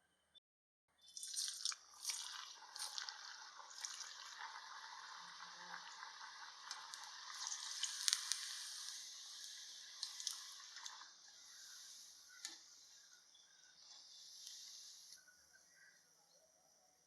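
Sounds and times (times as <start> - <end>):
food deep-frying in hot oil: 1.0 - 15.2.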